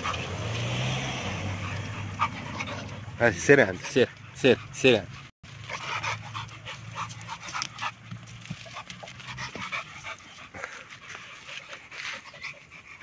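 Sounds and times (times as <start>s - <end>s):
dog panting: 1.3s - 13.0s.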